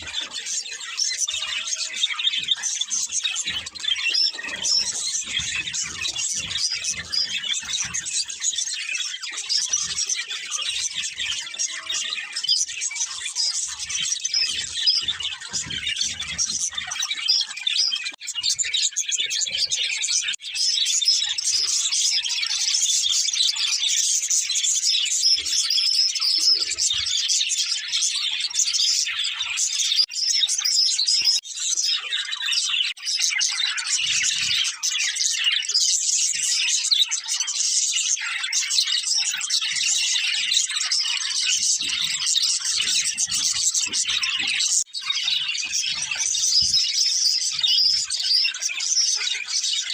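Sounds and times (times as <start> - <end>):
budgerigars chirping: 0.0 - 49.9.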